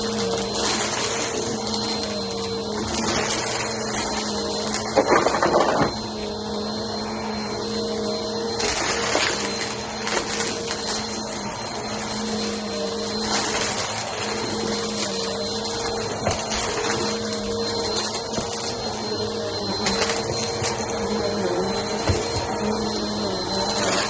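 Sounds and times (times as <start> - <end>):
debris rattling in vacuum: 0.0 - 24.0
vacuum cleaner running over carpet: 0.0 - 24.0.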